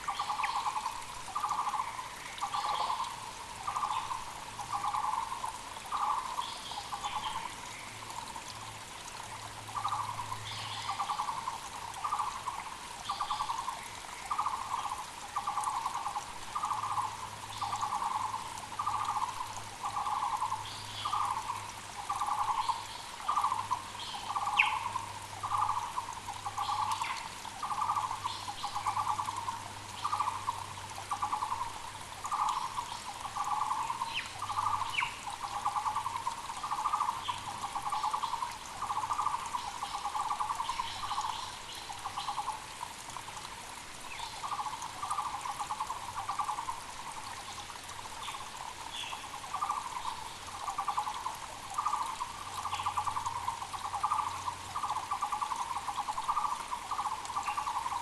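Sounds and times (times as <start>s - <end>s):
creek running: 0.0s - 58.0s
small birds chirping faintly: 0.0s - 58.0s.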